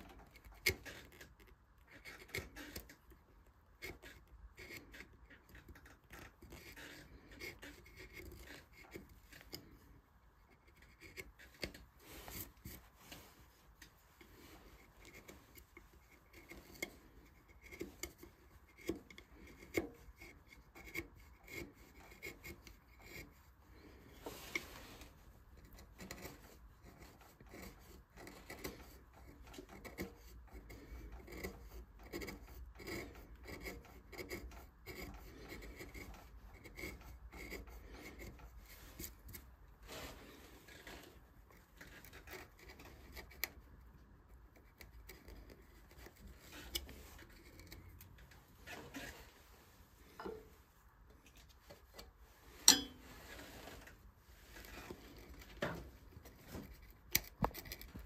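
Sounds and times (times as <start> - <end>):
carving tools scraping wood: 0.0 - 58.0.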